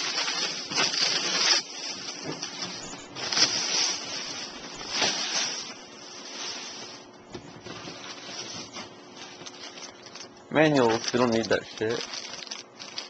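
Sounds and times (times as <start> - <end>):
packaging material rustling: 0.0 - 13.0.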